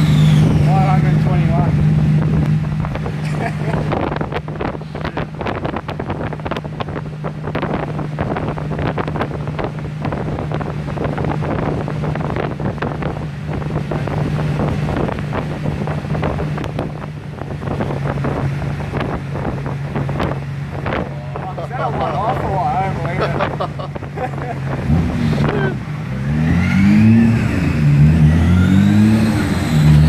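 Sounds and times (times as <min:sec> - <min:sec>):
car engine droning on dyno: 0:00.0 - 0:30.0
engine crackle: 0:00.0 - 0:30.0.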